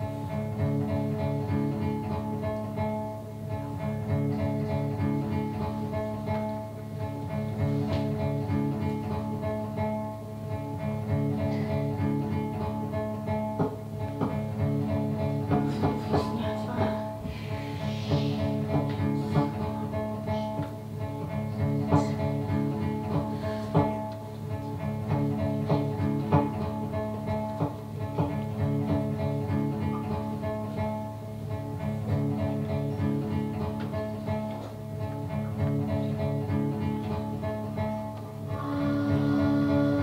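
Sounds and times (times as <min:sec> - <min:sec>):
plucked string notes: 0:00.0 - 0:40.0
sustained string tones: 0:00.0 - 0:40.0.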